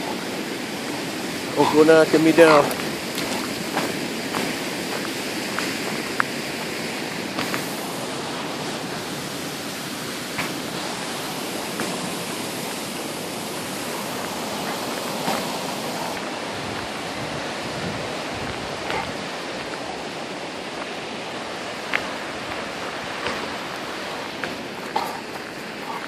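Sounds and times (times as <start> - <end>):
creek water rushing: 0.0 - 26.0
waterfall: 0.0 - 26.0
footsteps on icy trail: 0.1 - 26.0.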